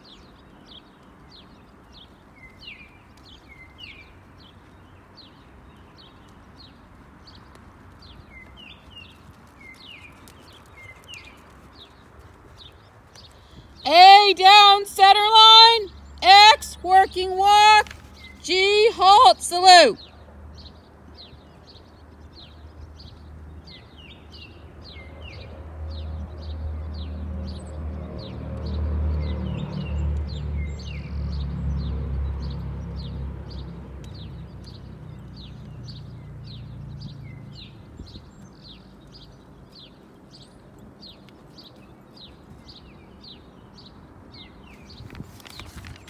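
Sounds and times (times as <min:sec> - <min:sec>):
bird chirping: 0:00.0 - 0:46.0.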